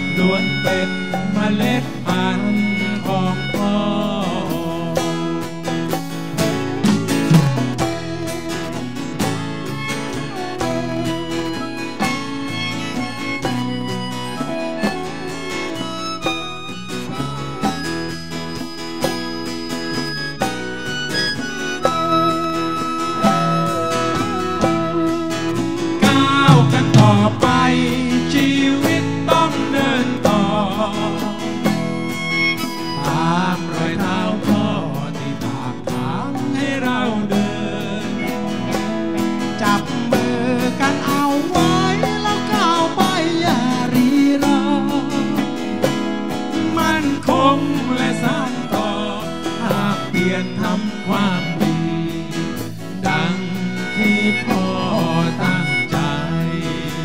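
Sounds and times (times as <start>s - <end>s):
drum kit: 0.0s - 57.0s
guitar: 0.0s - 57.0s
hand percussion: 0.0s - 57.0s.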